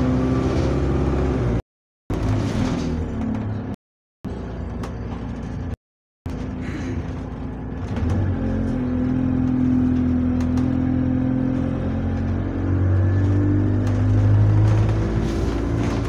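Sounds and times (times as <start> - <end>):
bus engine accelerating: 0.0 - 1.6, 2.2 - 16.0.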